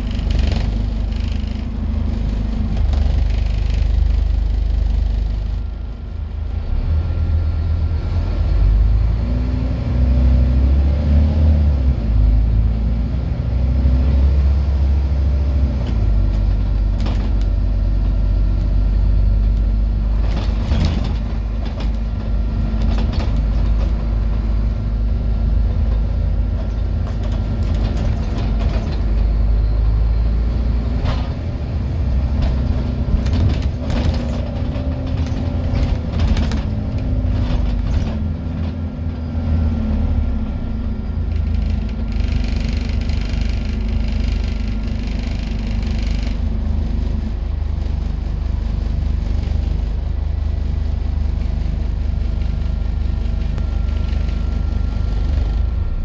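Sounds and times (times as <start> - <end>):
rattles and knocks of bus body: 0.0 - 6.7, 14.0 - 39.4, 40.8 - 56.0
bus diesel engine drone: 0.0 - 56.0.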